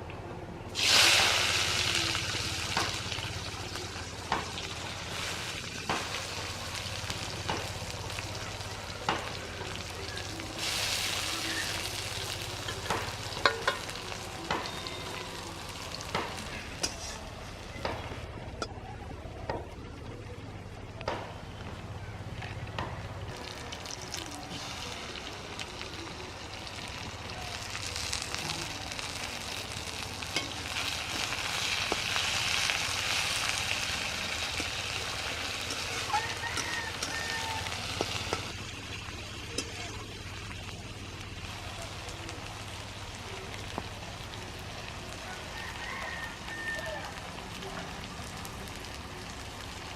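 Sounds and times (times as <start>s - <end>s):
food sizzling in oil: 0.8s - 17.2s, 23.4s - 49.9s.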